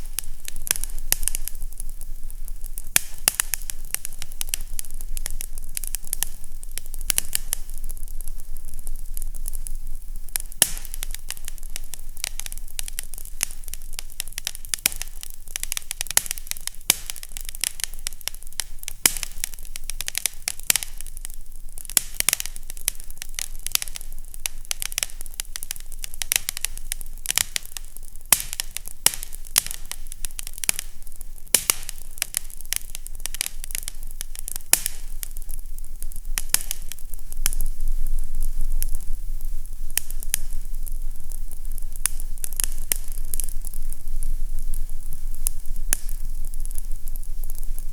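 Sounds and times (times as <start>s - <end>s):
fire crackling and popping: 0.0s - 47.9s
steady hiss: 0.0s - 47.9s.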